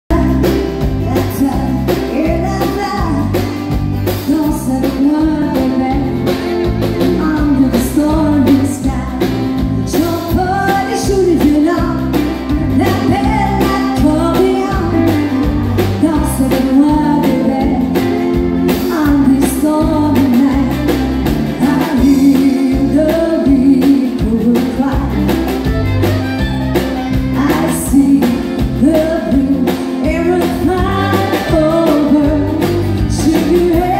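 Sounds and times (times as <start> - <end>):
bass line: 0.0 - 33.9
drums: 0.0 - 33.9
woman singing: 0.1 - 25.7, 27.3 - 33.9
keyboard: 0.1 - 33.9.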